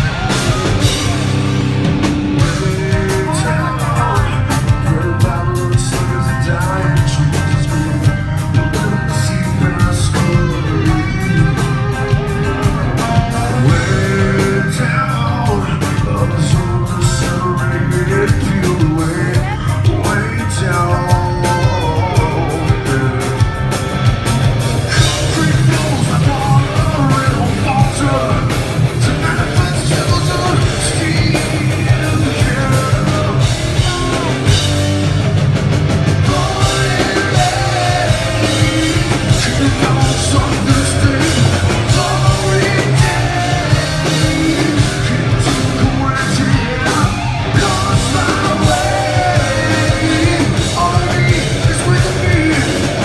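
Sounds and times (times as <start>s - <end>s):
bass guitar: 0.0s - 53.0s
drums: 0.0s - 53.0s
electric guitar: 0.0s - 53.0s
singer singing and yelling: 0.0s - 53.0s.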